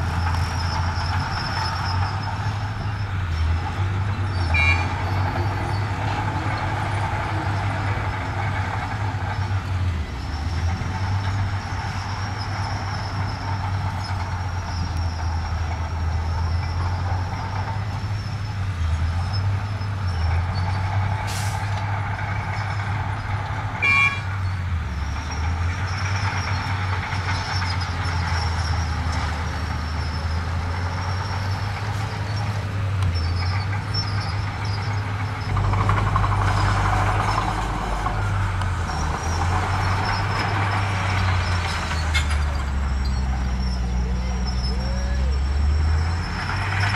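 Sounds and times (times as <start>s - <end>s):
diesel engine of earthmoving machinery: 0.0s - 46.9s.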